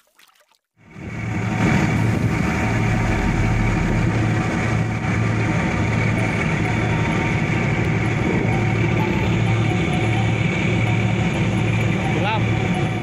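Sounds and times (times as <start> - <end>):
boat diesel engine humming: 0.8 - 13.0.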